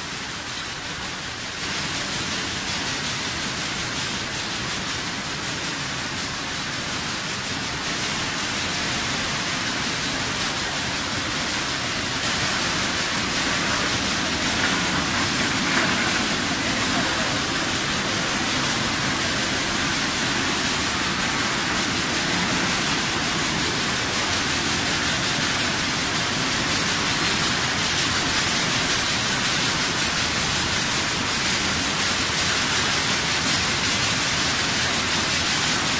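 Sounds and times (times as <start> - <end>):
conveyor drive motors: 0.0 - 35.9
rushing water hiss: 0.0 - 35.9.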